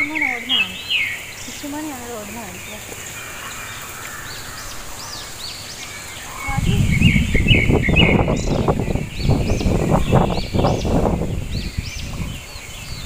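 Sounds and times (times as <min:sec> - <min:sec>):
birds chirping: 0:00.0 - 0:13.0
wind rumbling on microphone: 0:00.0 - 0:13.0.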